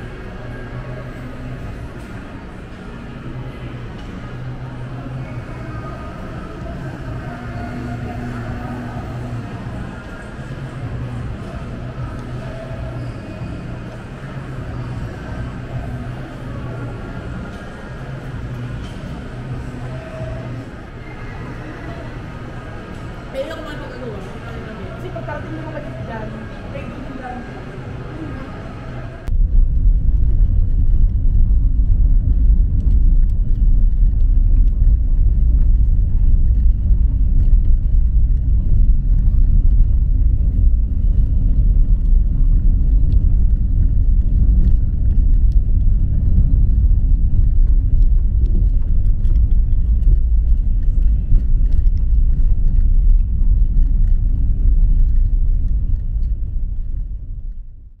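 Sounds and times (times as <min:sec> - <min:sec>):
road traffic rumble: 0:00.0 - 0:58.0
vehicle engines: 0:00.0 - 0:58.0.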